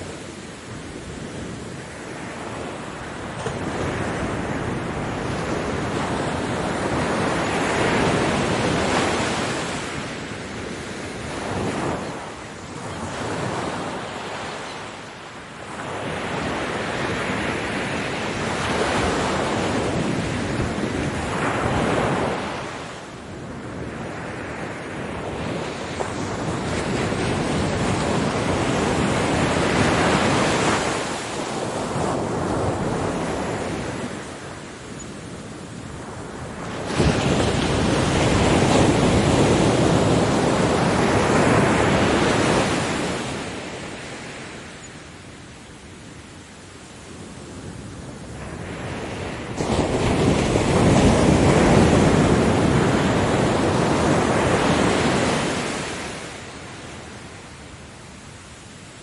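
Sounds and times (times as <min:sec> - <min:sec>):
ocean waves breaking: 0:00.0 - 0:59.0
wind on microphone: 0:00.0 - 0:59.0.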